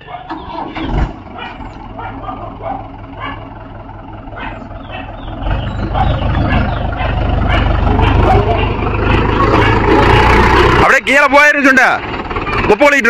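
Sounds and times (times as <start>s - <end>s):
tractor diesel engine: 0.0s - 13.0s.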